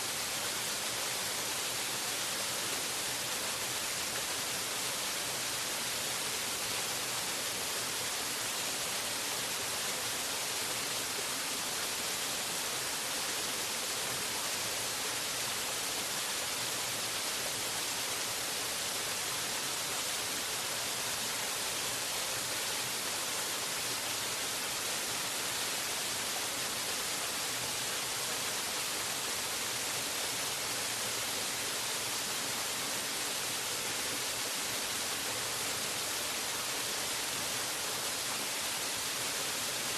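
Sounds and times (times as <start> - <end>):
waterfall: 0.0 - 39.9.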